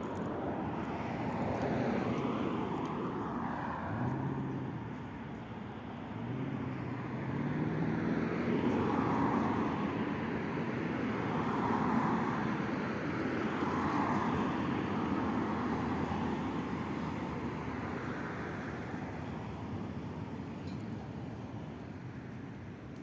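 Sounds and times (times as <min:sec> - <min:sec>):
cars driving past: 0:00.0 - 0:23.0.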